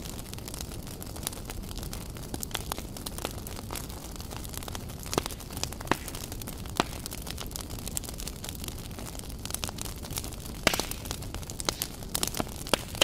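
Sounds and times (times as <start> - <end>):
sharp pops from fire: 0.0 - 13.0
wood fire crackling: 0.0 - 13.0.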